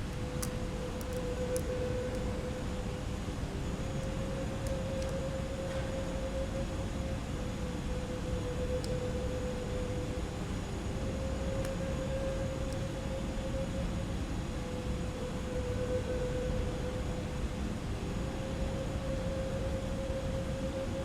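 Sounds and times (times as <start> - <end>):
constant mid-pitched hum: 0.0 - 21.0.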